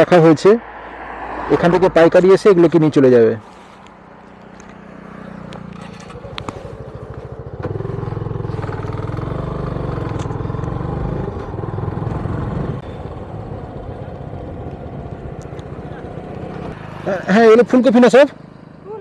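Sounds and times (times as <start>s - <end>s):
motorcycle engine running: 3.8s - 19.0s.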